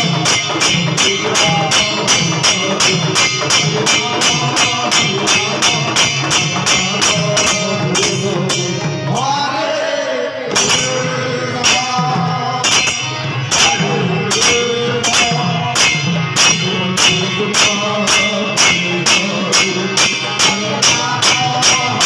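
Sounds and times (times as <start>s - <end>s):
hand cymbals clashing: 0.0s - 9.2s, 10.5s - 22.0s
barrel drums playing fast rhythm: 0.0s - 9.5s, 10.5s - 22.0s.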